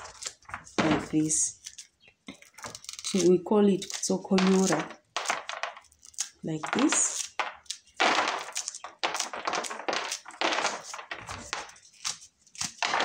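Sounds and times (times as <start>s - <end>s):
corn cobs rasping together: 0.0s - 13.0s.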